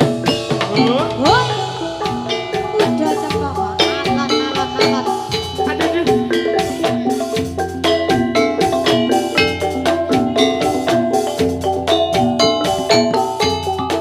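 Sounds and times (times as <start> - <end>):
drums: 0.0 - 14.0
metallophones playing fast pattern: 0.0 - 14.0.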